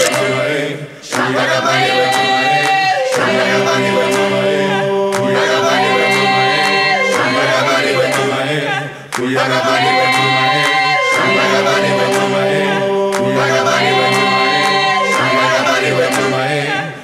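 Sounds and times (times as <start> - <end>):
a cappella choir singing: 0.0 - 17.0.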